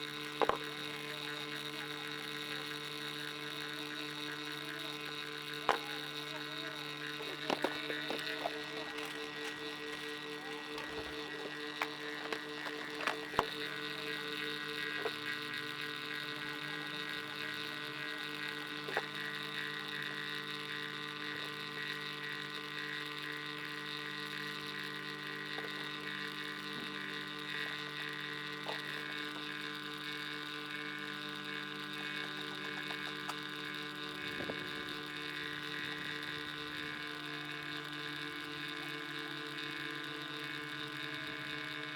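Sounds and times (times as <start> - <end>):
electrical hum: 0.0 - 41.9.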